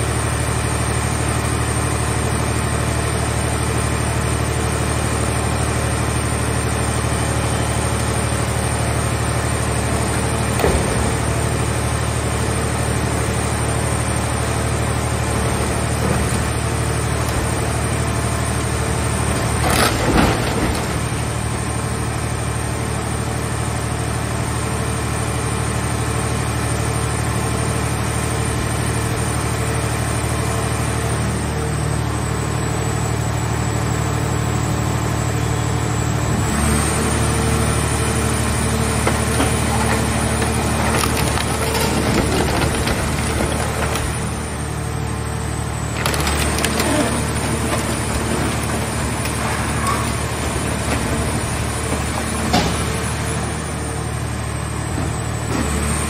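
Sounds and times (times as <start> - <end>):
hydraulic baler humming: 0.0 - 56.0.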